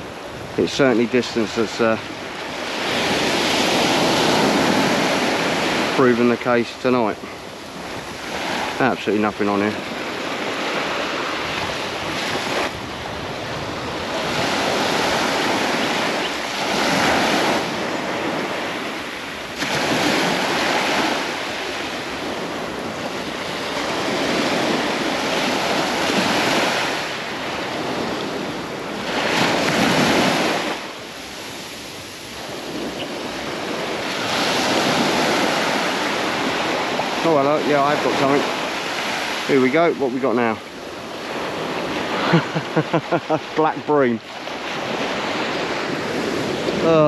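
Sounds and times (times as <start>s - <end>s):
surf breaking on beach: 0.0s - 47.0s.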